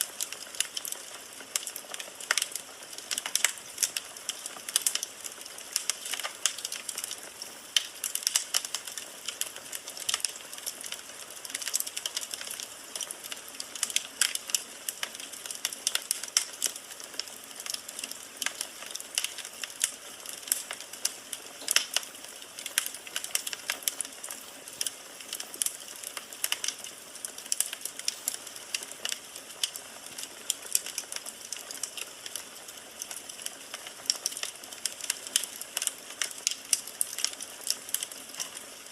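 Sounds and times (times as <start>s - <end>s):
firewood crackling and popping: 0.0s - 38.9s
fire hissing: 0.1s - 35.2s.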